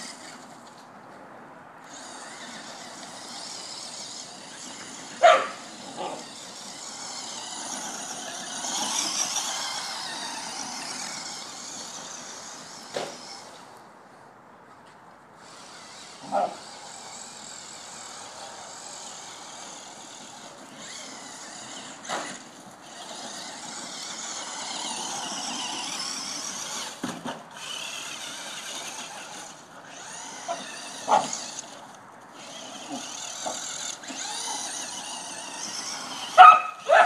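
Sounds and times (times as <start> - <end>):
toy truck motor whining: 0.0 - 0.6, 1.8 - 13.8, 15.4 - 37.0.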